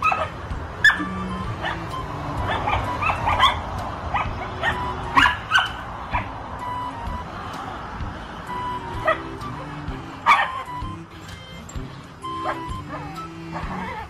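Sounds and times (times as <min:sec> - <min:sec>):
dogs barking and yipping: 0:00.0 - 0:07.6, 0:08.4 - 0:14.0
background music: 0:00.0 - 0:14.0.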